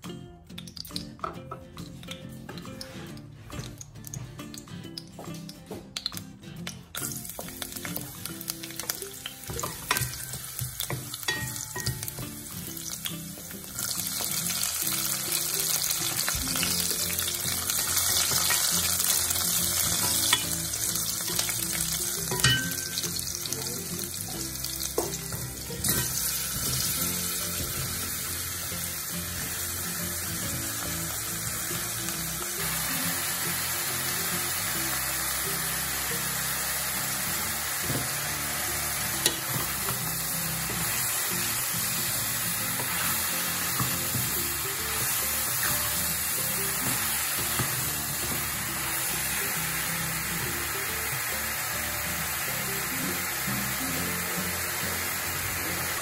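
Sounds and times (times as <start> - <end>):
food sizzling in hot oil: 7.0 - 56.0.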